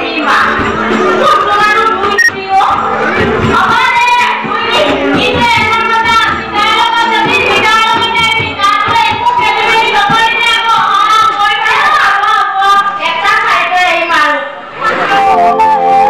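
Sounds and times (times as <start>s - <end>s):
woman singing: 0.0s - 2.9s, 3.5s - 14.0s.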